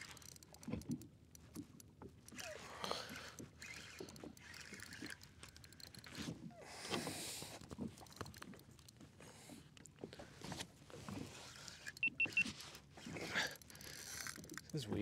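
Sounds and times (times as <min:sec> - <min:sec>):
fishing reel clicking: 0:00.0 - 0:09.0, 0:11.4 - 0:15.0.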